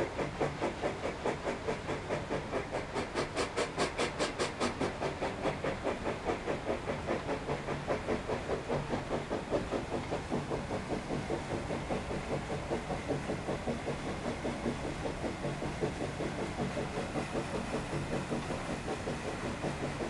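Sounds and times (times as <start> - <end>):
steam engine chuffing: 0.0 - 20.0
steam hiss: 0.0 - 20.0.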